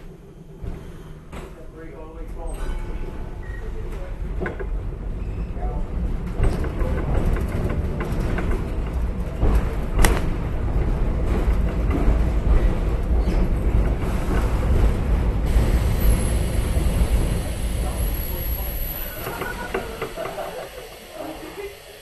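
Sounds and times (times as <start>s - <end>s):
streetcar wheels and motors rumbling: 0.0s - 22.0s.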